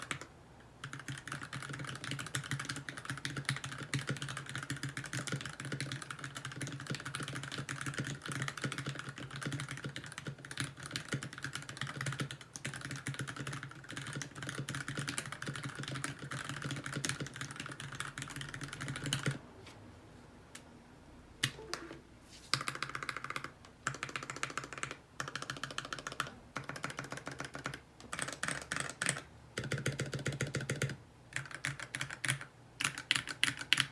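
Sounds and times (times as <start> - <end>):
mechanical keyboard typing: 0.0 - 19.4, 21.4 - 33.9.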